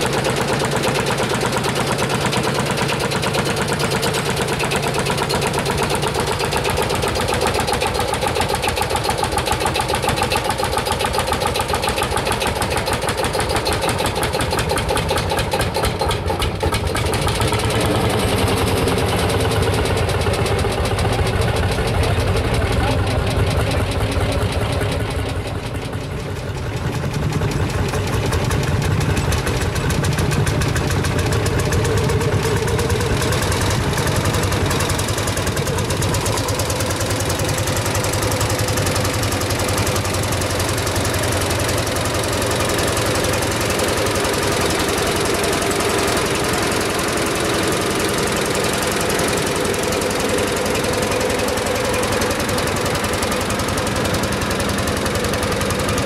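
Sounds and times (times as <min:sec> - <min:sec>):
tractor engine knocking: 0:00.0 - 0:56.0.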